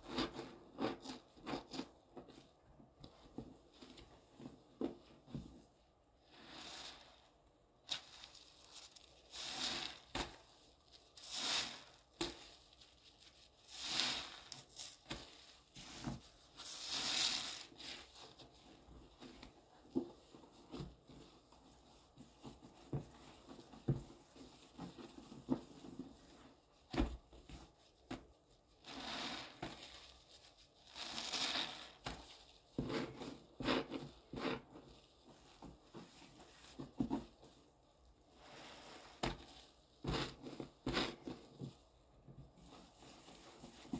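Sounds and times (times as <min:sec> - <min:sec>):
sponge squelching in foamy paste: 0:05.6 - 0:37.0, 0:37.6 - 0:43.9.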